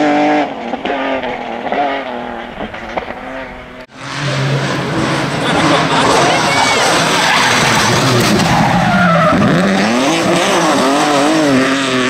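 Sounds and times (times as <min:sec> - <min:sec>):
car engine revving: 0:00.0 - 0:12.0
car tyres sliding: 0:00.5 - 0:12.0.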